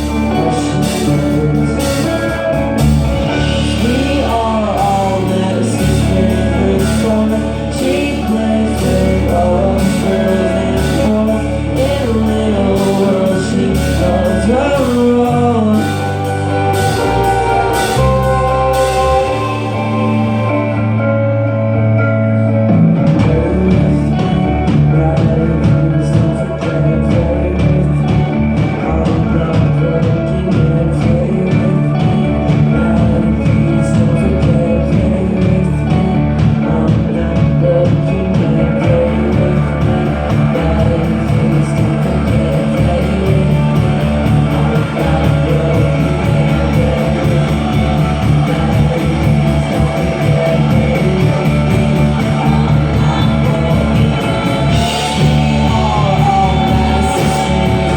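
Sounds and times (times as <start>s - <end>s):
rock band playing: 0.0s - 57.9s.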